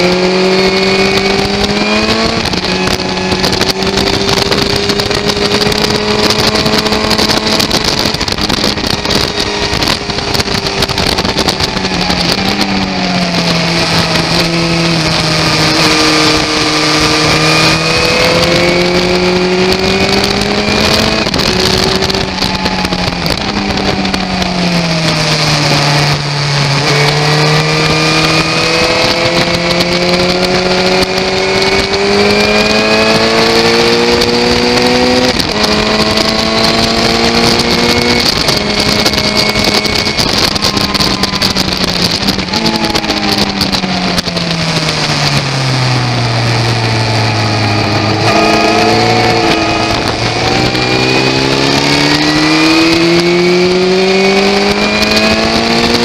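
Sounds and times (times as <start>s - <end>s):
heavy wind noise: 0.0s - 56.0s
motorcycle engine at speed: 0.0s - 56.0s.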